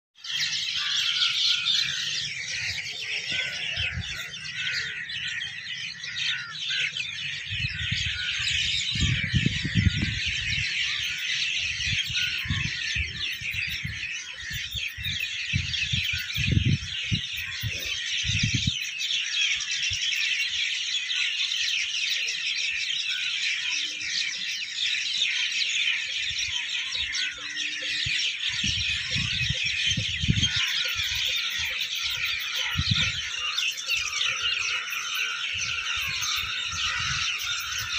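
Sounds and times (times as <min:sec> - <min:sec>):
small birds chirping: 0:00.2 - 0:37.9.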